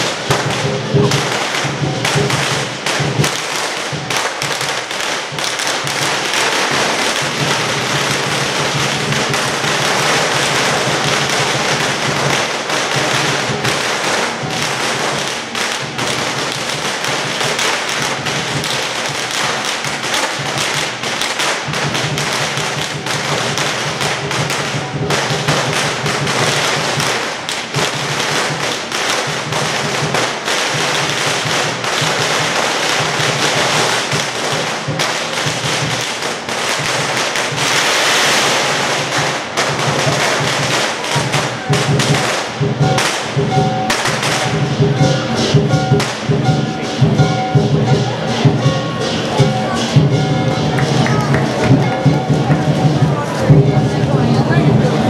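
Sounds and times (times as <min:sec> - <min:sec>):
drumming: 0:00.0 - 0:55.0
firecrackers crackling: 0:00.0 - 0:55.0.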